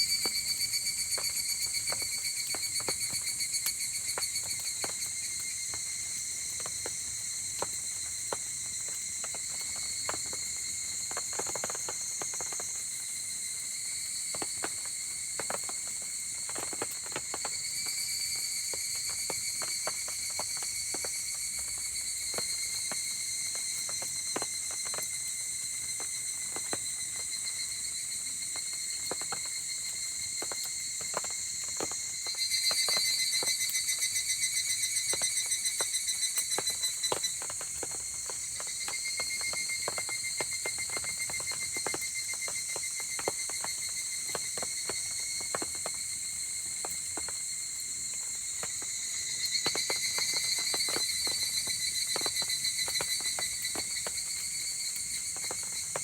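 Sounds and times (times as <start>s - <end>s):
insects chorus trilling: 0.0s - 56.0s
rain: 0.0s - 56.0s.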